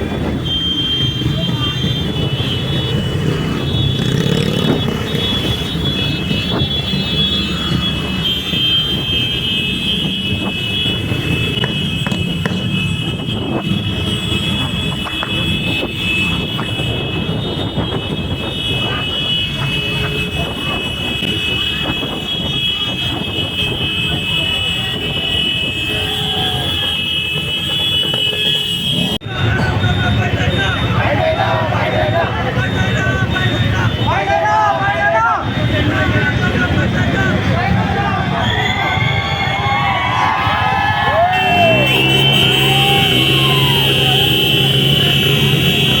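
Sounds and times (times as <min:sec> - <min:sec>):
motorcycle engines rumbling: 0:00.0 - 0:46.0.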